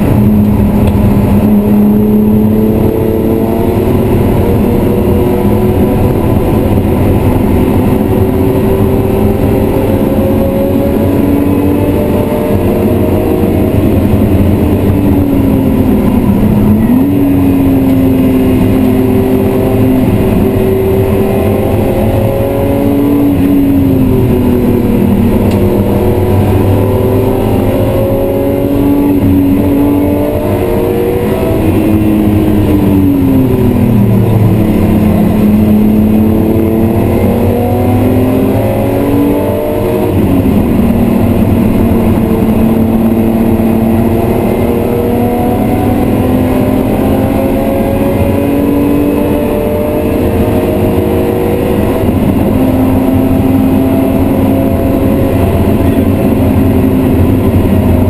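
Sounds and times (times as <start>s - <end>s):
car engine revving in cabin: 0.0s - 58.0s.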